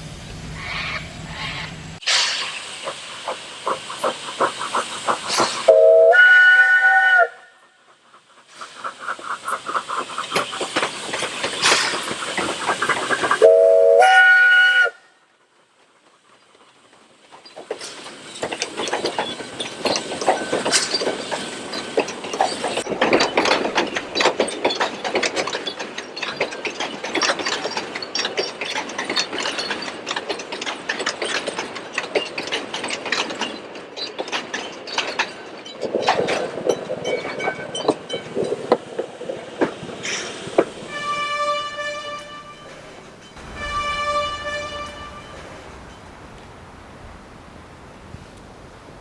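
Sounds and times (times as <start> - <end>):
train wheels and carriages clattering: 0.1 - 49.0.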